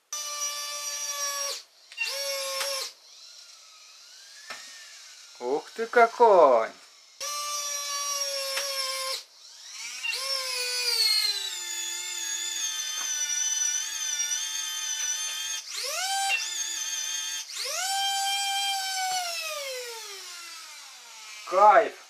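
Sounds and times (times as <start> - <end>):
electric winch motor whining: 0.2 - 6.3, 6.9 - 21.9.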